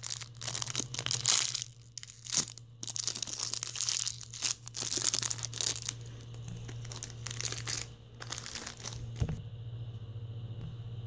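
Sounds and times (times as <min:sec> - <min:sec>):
plastic bag crinkling: 0:00.0 - 0:09.4
low hum: 0:00.0 - 0:11.0.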